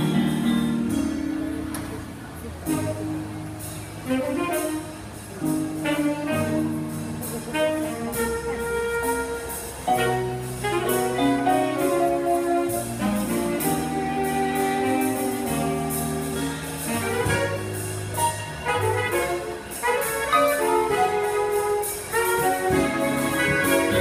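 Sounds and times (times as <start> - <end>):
drums: 0.0 - 24.0
piano: 0.0 - 24.0
upright bass: 0.0 - 24.0
saxophone section: 2.6 - 3.4, 4.0 - 24.0
brass section: 2.6 - 24.0.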